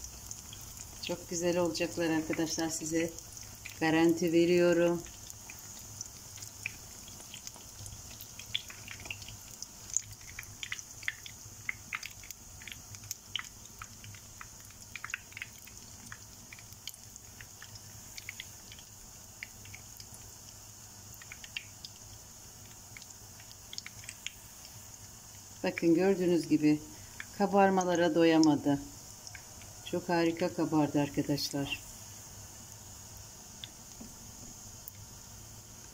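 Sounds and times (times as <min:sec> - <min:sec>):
oil popping and crackling: 0:00.0 - 0:30.6
dough sizzling in hot oil: 0:00.0 - 0:35.9.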